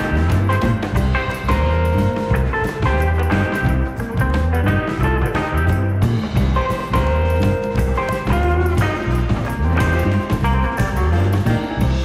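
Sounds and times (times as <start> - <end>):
background music with drums: 0.0 - 12.0.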